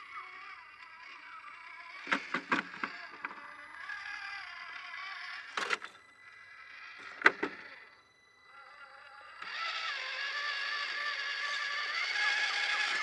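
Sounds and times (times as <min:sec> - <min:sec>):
rc car electric motor whining: 0:00.0 - 0:13.0.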